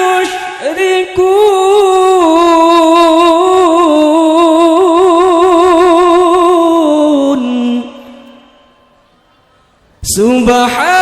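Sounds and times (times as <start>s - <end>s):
man reciting melodically: 0.0s - 8.9s, 10.0s - 11.0s.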